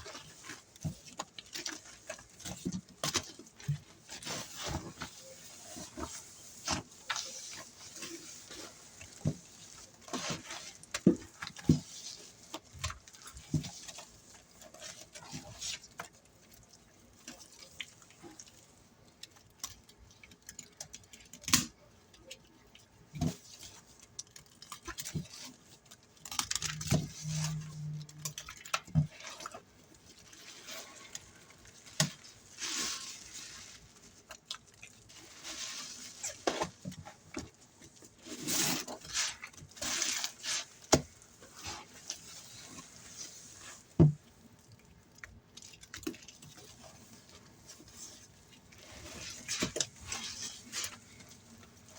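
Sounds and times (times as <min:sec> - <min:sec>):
soapy sponge squelching: 0:00.0 - 0:19.0, 0:27.1 - 0:51.9.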